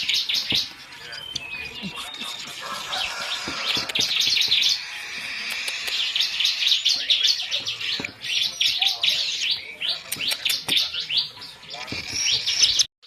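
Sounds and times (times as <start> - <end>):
baby birds harsh chirping: 0.0 - 12.9.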